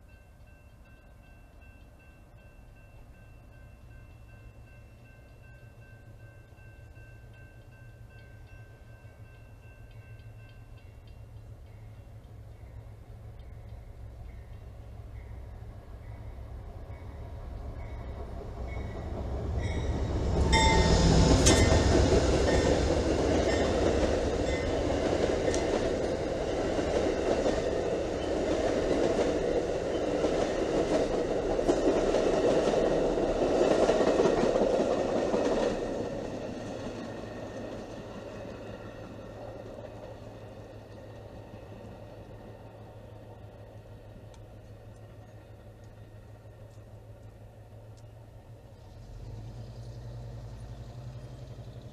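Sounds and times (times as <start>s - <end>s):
train passing: 0.0s - 51.9s.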